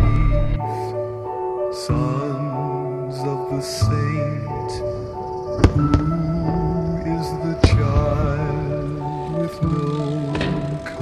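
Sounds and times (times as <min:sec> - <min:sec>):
vocals: 0:00.0 - 0:11.0.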